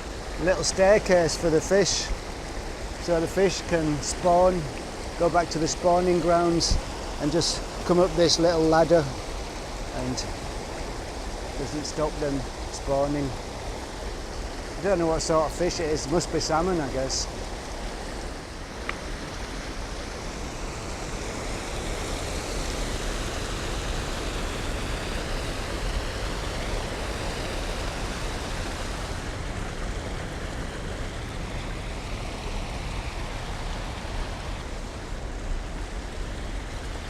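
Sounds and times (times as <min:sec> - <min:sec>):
water rushing down fish ladder: 0:00.0 - 0:37.0.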